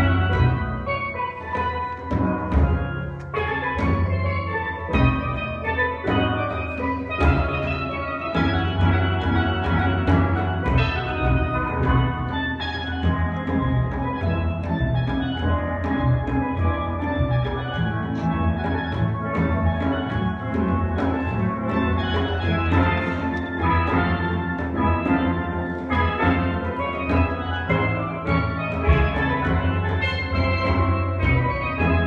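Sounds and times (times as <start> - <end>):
steel pan playing a tune: 0.0 - 32.0.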